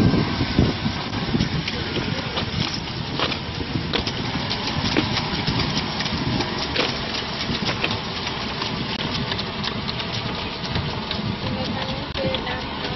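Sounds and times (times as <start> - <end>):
rice transplanter engine running: 0.0 - 12.9.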